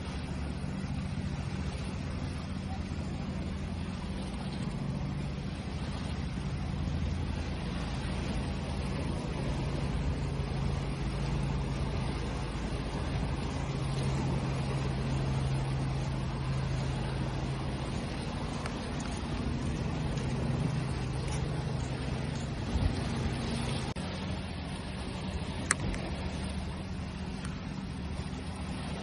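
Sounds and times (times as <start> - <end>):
low engine-like hum: 0.0 - 29.0
sea waves washing: 0.0 - 29.0.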